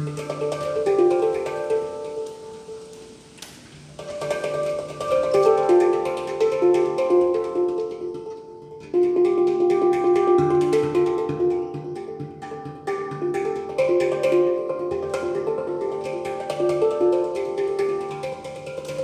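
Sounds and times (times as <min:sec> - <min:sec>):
handpan notes ringing: 0:00.0 - 0:03.3, 0:03.9 - 0:19.0.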